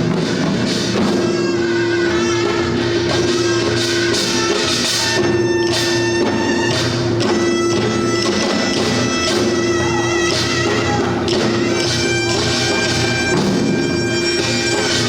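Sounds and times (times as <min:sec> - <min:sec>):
drums beating: 0:00.0 - 0:15.0.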